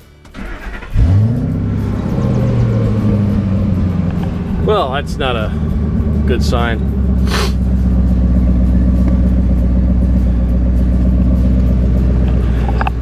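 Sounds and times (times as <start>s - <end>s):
truck engine idling: 0.0s - 13.0s
engine popping burst: 0.3s - 13.0s.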